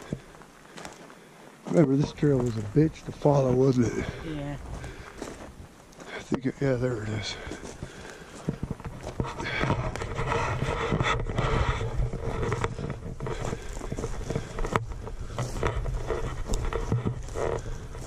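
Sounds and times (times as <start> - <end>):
footsteps crunching on dirt: 0.0 - 18.0
steady low rumble: 1.8 - 18.0.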